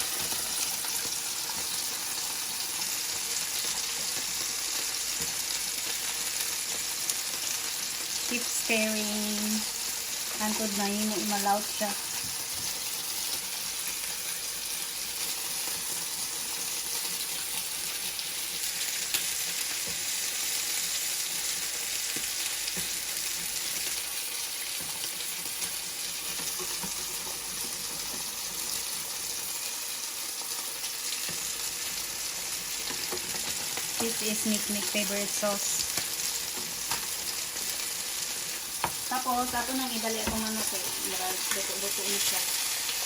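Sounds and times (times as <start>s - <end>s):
sauce sizzling in a pan: 0.0s - 43.0s.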